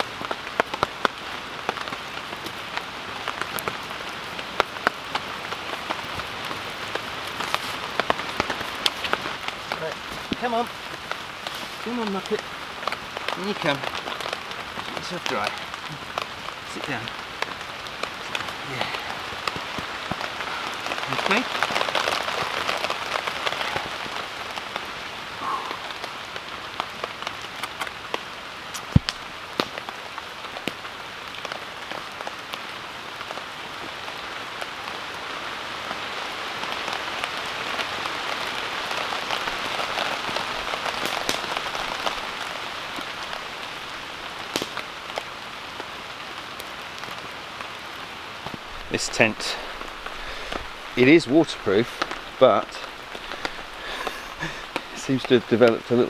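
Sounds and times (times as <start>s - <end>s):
rain on tent fabric: 0.0s - 56.0s.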